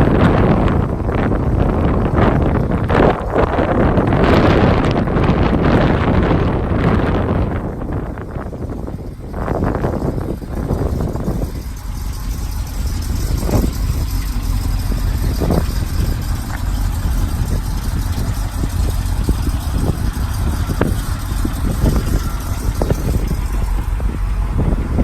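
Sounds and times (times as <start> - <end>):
car engine running steadily: 0.0 - 25.0.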